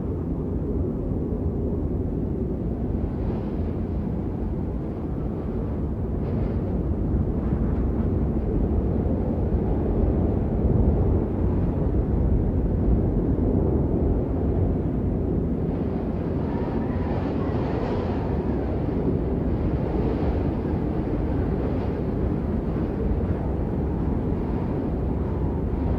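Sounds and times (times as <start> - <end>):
gusting wind rumble: 0.0 - 25.9.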